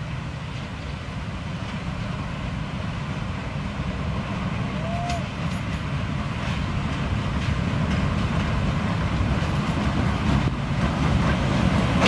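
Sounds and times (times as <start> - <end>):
locomotive engine drone: 0.0 - 12.0.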